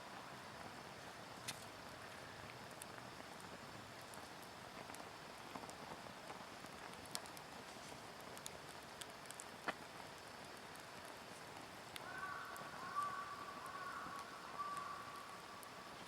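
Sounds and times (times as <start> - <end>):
wood fire crackling: 0.0 - 16.0
fire pops: 0.7 - 16.0.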